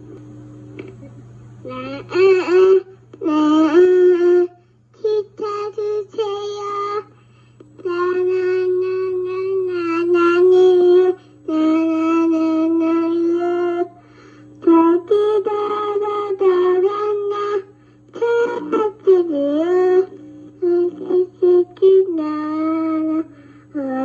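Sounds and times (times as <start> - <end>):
child singing on cassette: 0.0 - 14.0, 14.6 - 24.0
steady low hum: 0.0 - 24.0.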